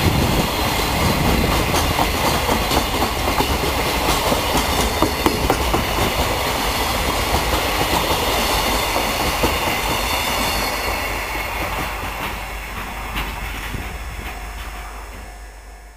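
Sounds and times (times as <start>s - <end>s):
rail clacks: 0.0s - 15.9s
train wheels rolling on rails: 0.0s - 15.9s.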